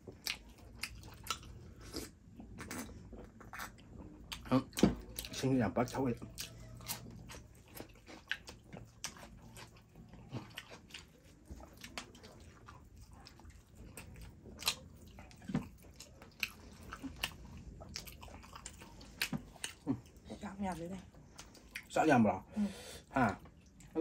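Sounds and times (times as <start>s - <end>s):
person chewing crispy food: 0.0s - 22.0s.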